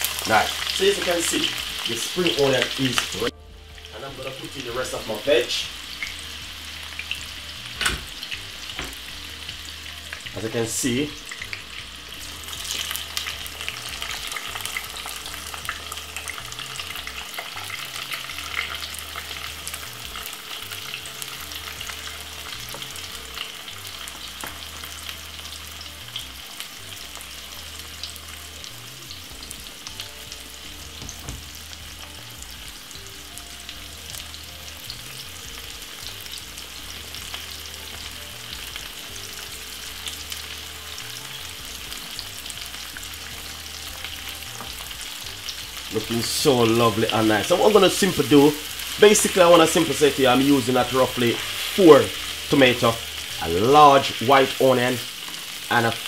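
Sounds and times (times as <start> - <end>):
vegetables sizzling in oil: 0.0 - 56.0.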